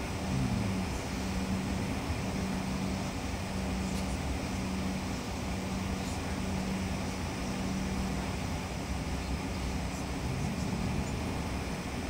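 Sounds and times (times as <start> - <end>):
jet cabin noise while taxiing: 0.0 - 12.0
low steady hum: 0.0 - 12.0.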